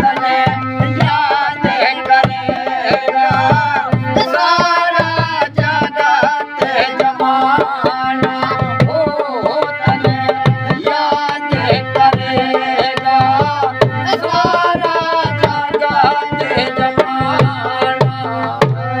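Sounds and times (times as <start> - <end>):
held melody line: 0.0 - 19.0.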